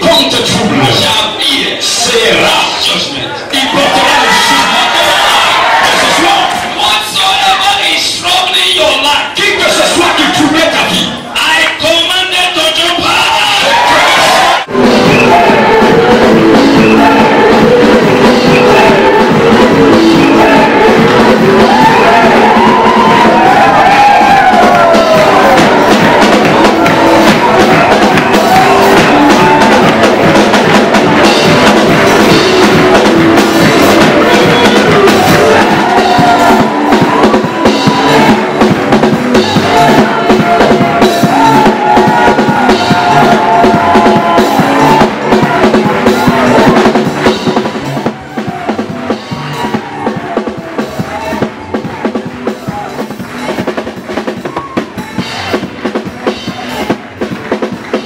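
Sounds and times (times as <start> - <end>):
gospel band music: 0.0 - 58.0
drum kit: 3.8 - 58.0.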